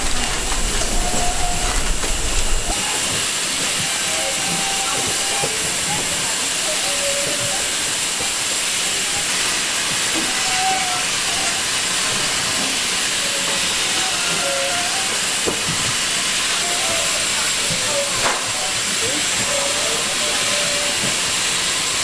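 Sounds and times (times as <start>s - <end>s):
steam tunnel hissing: 0.0s - 22.0s.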